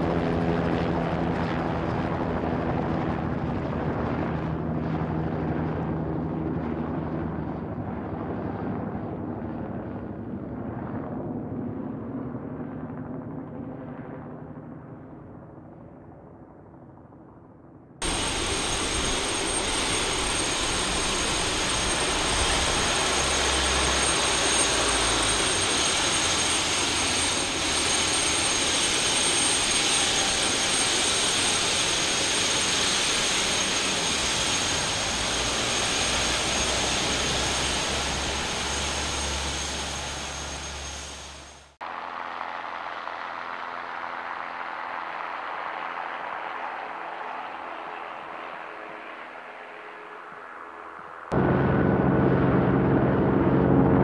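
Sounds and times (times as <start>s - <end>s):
distant helicopter: 0.0s - 54.0s
helicopter hovering close by: 0.0s - 54.0s.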